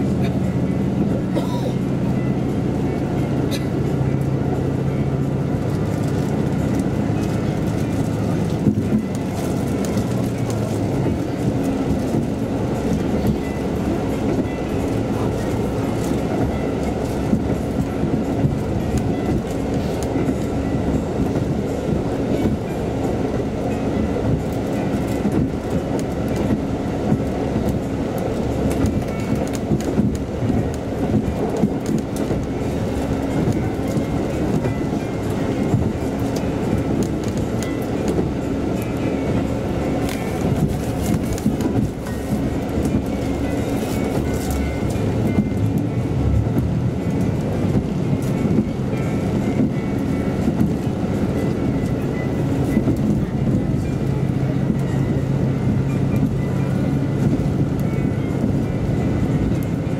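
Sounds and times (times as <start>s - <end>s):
railcar engine rumble: 0.0s - 59.9s
wheels clicking over rail joints: 0.0s - 59.9s.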